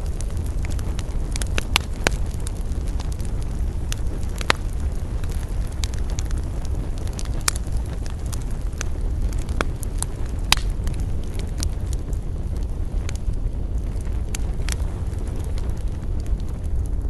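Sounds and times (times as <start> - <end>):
campfire crackling and popping: 0.0 - 17.0
low rumble of wind: 0.0 - 17.0.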